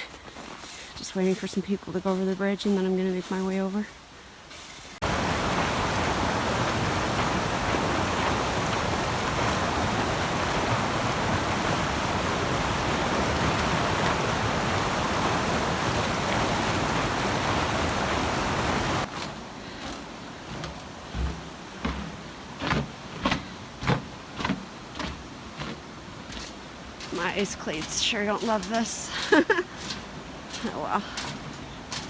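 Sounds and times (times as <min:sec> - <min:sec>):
water rushing over falls: 0:05.0 - 0:32.0.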